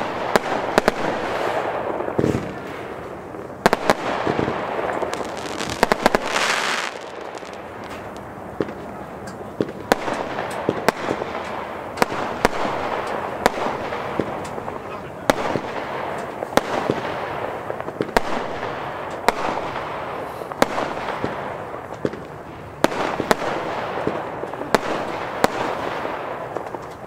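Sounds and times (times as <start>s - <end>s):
firework crackling hiss: 0.0s - 27.0s
firework reports: 0.0s - 27.0s.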